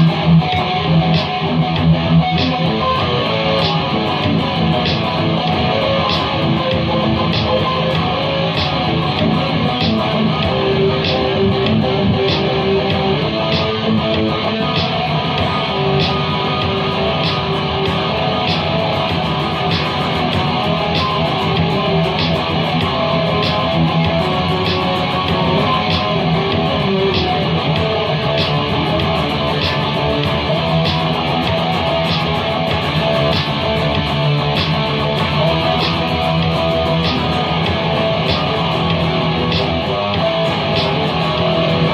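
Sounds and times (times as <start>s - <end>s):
guitar strummed and plucked: 0.0s - 41.9s.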